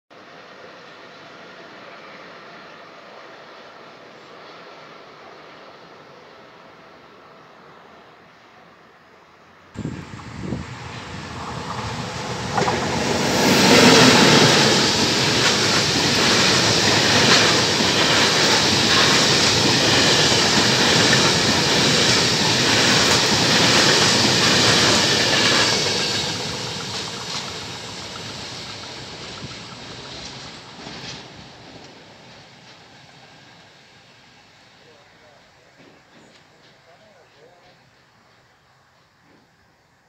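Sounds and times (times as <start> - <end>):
freight train passing fast: 0.2 - 38.6.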